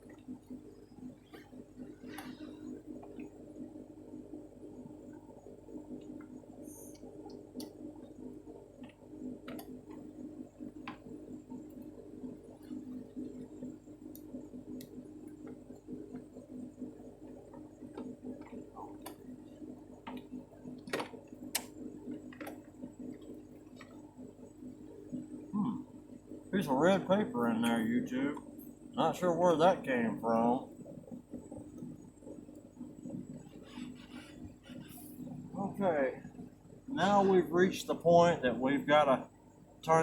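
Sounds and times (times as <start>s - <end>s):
car engine and air conditioning hum: 0.0s - 40.0s.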